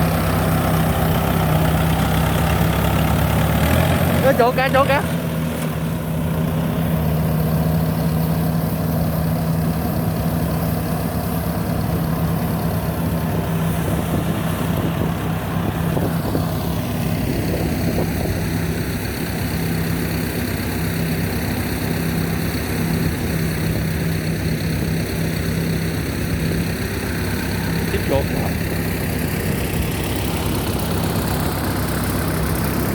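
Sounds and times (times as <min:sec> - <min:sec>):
combine harvester engine hum: 0:00.0 - 0:32.9
higher machinery sound: 0:00.0 - 0:32.9.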